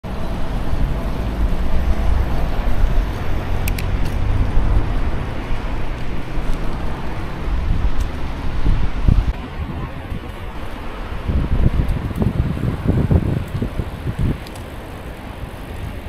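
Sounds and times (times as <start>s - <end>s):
street traffic rumble: 0.0s - 16.0s
wind buffeting microphone: 0.0s - 16.0s.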